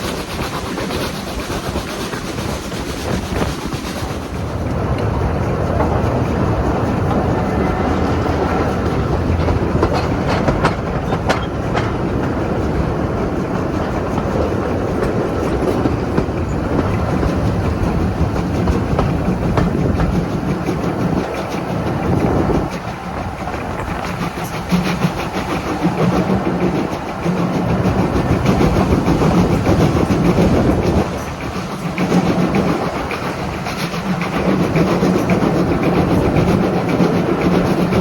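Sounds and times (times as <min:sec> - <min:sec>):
train rumbling on rails: 0:00.0 - 0:38.0
wheels clacking over rail joints: 0:00.0 - 0:38.0.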